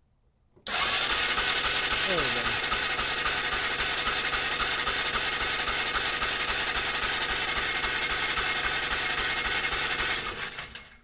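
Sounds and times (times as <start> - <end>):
engine cranking without starting: 0.6 - 11.0.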